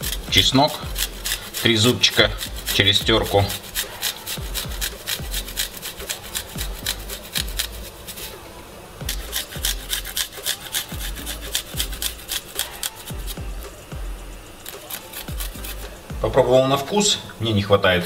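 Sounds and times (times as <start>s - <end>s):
garlic rasping on metal grater: 0.0s - 13.9s, 14.5s - 16.1s.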